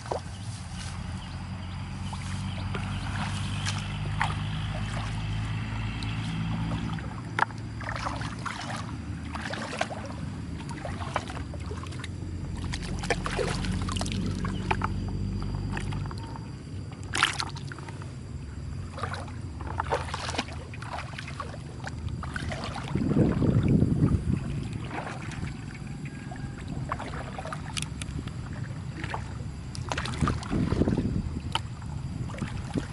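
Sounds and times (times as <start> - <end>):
muddy water sloshing and splashing: 0.0 - 32.9
steady low hum: 0.0 - 32.9.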